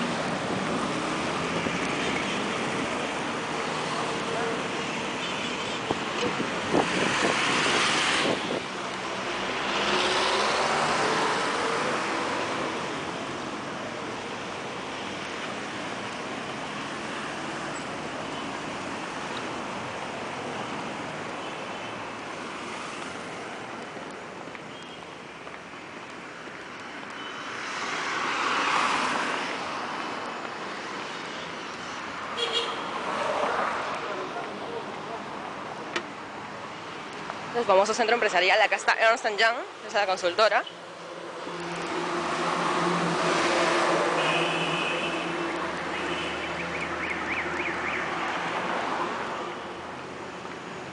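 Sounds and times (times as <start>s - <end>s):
cars passing on street: 0.0s - 50.9s.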